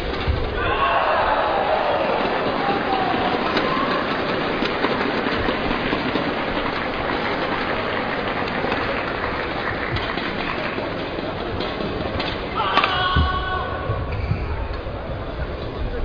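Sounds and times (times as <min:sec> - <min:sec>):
crowd noise: 0:00.0 - 0:16.0.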